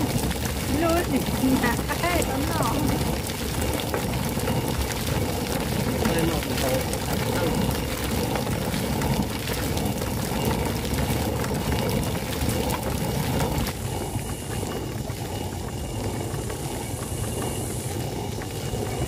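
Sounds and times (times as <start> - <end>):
stone mill grinding: 0.0 - 19.0.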